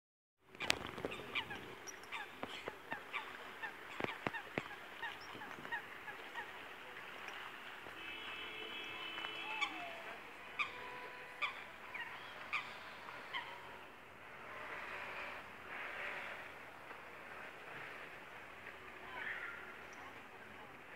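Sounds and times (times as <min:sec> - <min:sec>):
water birds calling: 0:00.4 - 0:20.9.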